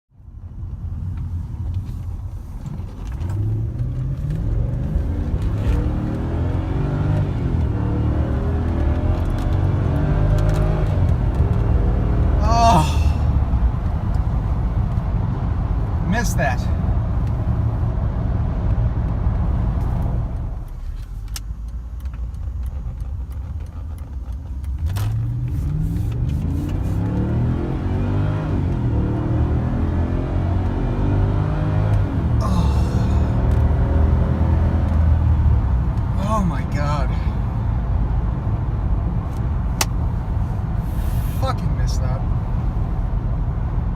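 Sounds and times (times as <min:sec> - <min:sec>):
car engine accelerating hard: 0:03.1 - 0:20.8, 0:22.7 - 0:43.9.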